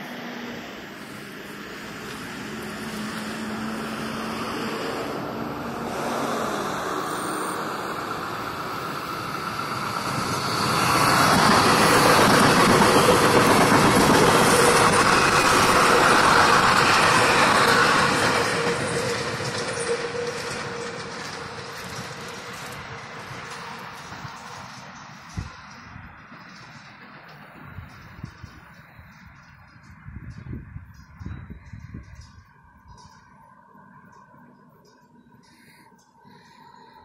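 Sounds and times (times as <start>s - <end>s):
train wheels rushing on rails: 0.0s - 37.0s.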